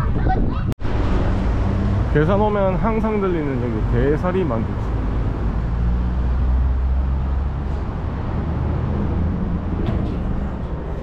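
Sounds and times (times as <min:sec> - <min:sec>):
vehicle engine rumble: 0:00.8 - 0:11.0.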